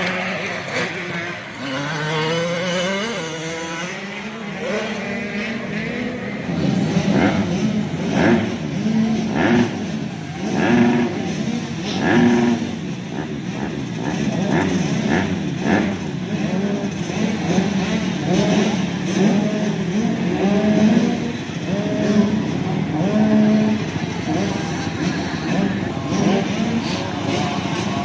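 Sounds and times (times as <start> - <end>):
motocross bikes racing: 0.0 - 28.0.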